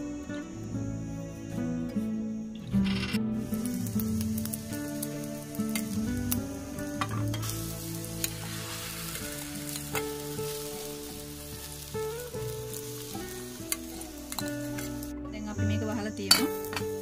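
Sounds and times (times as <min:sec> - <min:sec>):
egg whites sizzling in oil: 0:02.7 - 0:17.0.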